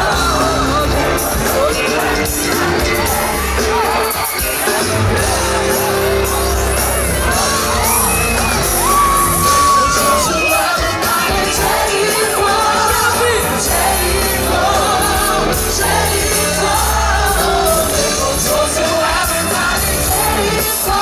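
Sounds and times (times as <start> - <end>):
bass guitar: 0.0 - 21.0
drums: 0.0 - 21.0
keyboard: 0.0 - 21.0.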